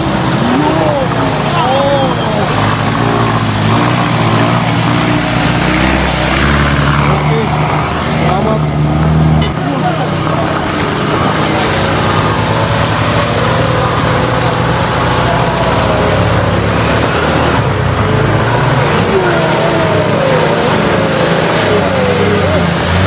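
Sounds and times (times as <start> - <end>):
background voices: 0.0 - 23.0
truck engine droning: 0.0 - 23.0.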